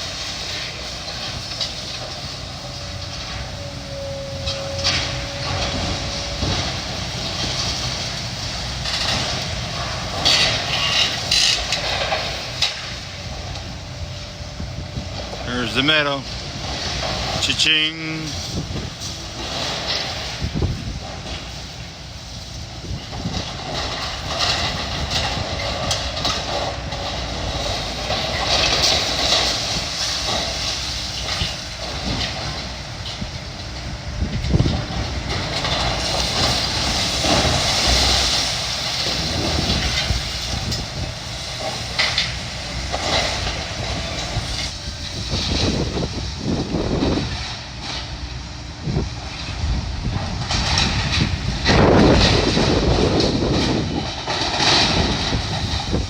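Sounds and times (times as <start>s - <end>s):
diesel engine under load: 0.0s - 56.0s
falling debris crunching and scraping: 0.0s - 56.0s.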